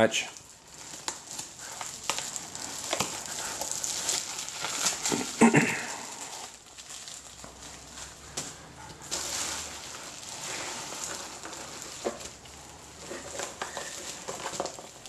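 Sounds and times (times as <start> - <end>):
bubble wrap and paper crinkling: 0.0 - 15.0
bubble wrap pops: 0.7 - 15.0.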